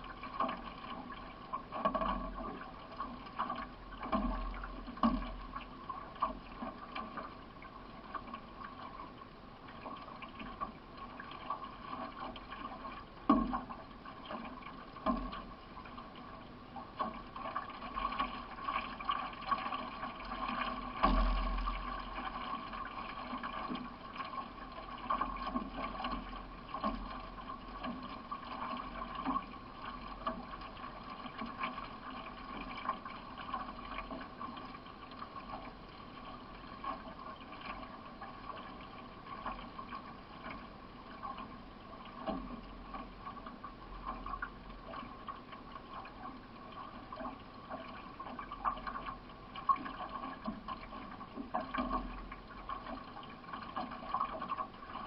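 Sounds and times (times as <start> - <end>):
water running along hull: 0.0 - 55.0
canoe paddle strokes splashing: 9.7 - 55.0.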